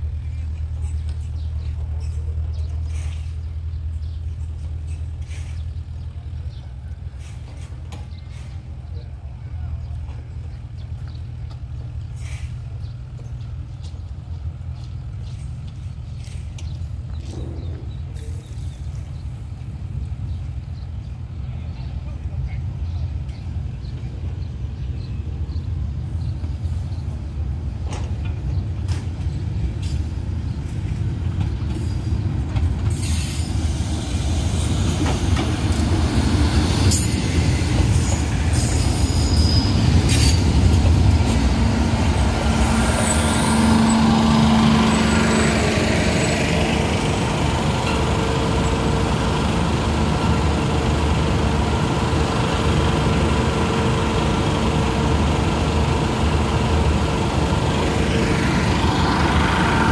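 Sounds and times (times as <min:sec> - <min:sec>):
diesel train rumble: 0:00.0 - 0:59.9.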